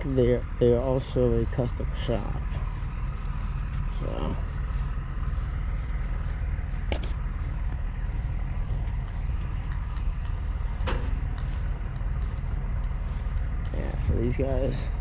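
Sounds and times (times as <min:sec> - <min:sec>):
diesel truck engines idling: 0:00.0 - 0:15.0.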